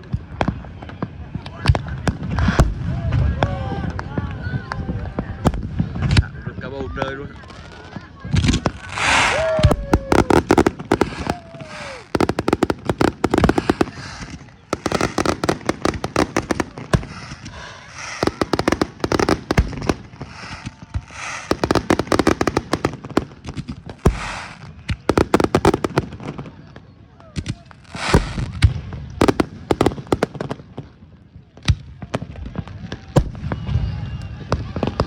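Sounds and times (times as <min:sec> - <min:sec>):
fireworks crackling pops: 0:00.0 - 0:06.4, 0:07.4 - 0:35.0.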